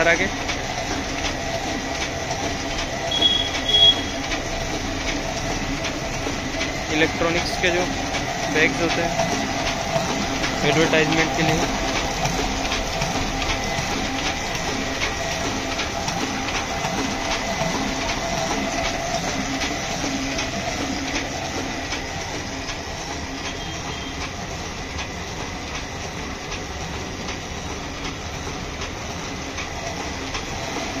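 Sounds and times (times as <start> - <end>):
printing press clattering: 0.0 - 31.0.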